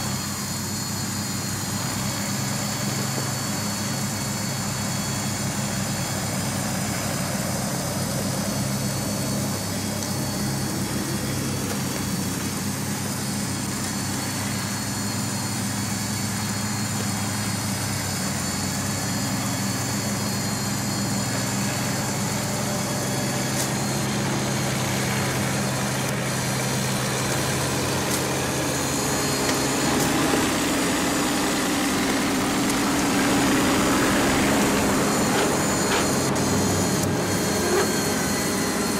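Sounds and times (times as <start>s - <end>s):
toy tractor motor humming: 0.0s - 38.9s.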